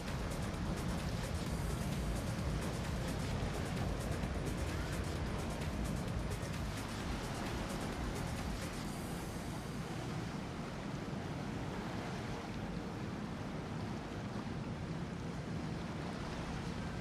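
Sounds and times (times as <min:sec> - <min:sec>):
choppy water washing: 0:00.0 - 0:17.0
motor yacht engine hum: 0:00.0 - 0:17.0.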